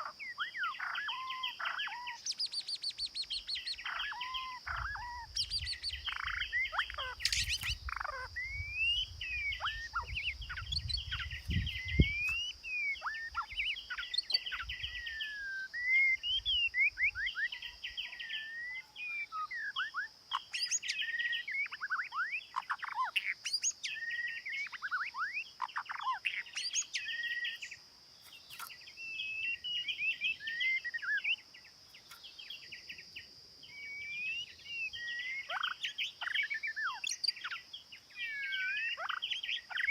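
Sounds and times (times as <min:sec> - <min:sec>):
songbird singing: 0:00.0 - 0:39.9
steady high-pitched hiss: 0:00.0 - 0:39.9.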